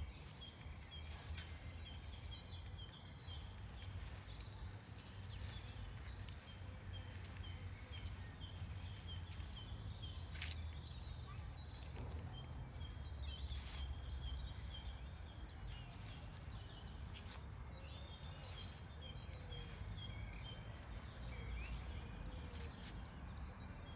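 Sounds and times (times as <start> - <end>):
songbirds chirping: 0.0 - 23.9.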